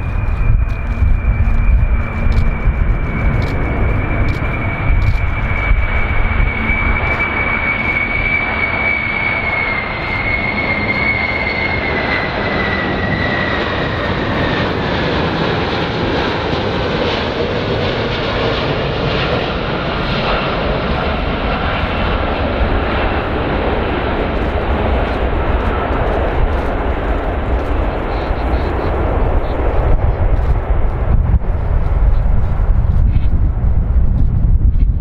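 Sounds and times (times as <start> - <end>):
jetliner flying past: 0.0 - 35.0.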